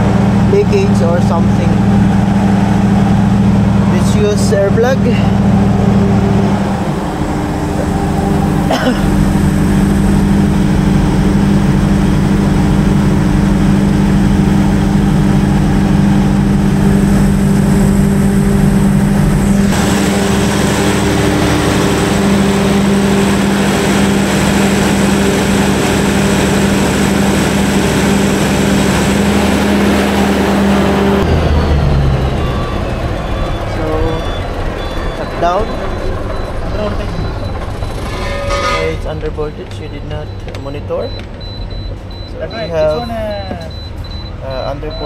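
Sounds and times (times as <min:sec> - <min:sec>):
diesel generator humming: 0:00.0 - 0:45.0.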